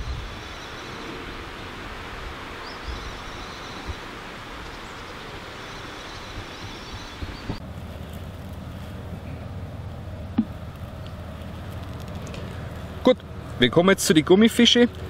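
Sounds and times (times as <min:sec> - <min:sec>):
wind rustling leafy trees: 0:00.0 - 0:15.0.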